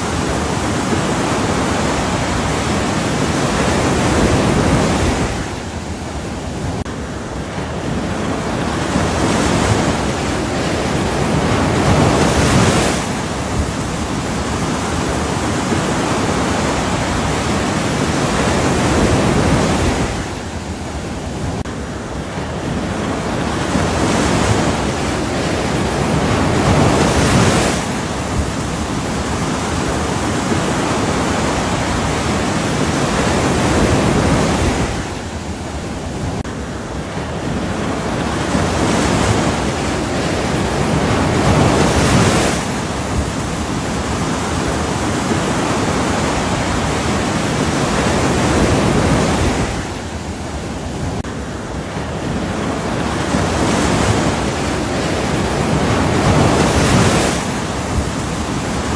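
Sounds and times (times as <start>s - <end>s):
waves breaking: 0.0s - 58.9s.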